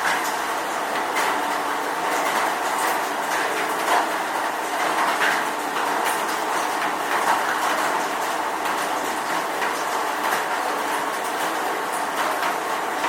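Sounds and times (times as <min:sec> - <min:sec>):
raindrops pattering: 0:00.0 - 0:13.0.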